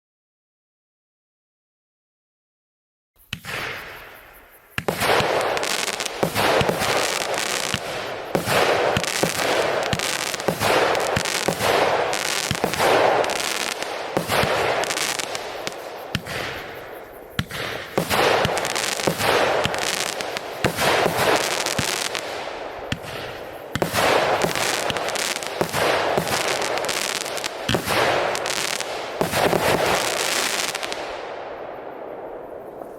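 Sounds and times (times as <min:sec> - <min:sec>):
firework crackle: 0:03.2 - 0:32.9
firework launches and bangs: 0:03.3 - 0:31.2.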